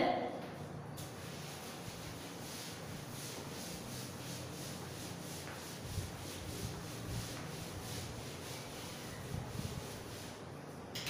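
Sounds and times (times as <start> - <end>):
duster rubbing on blackboard: 1.0 - 10.7.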